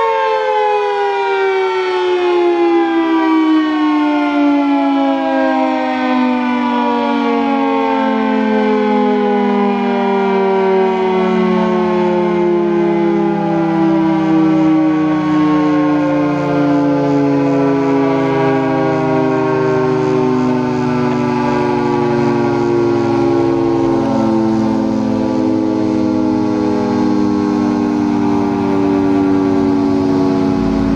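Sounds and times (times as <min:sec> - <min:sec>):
three-tone warning siren: 0:00.0 - 0:30.9.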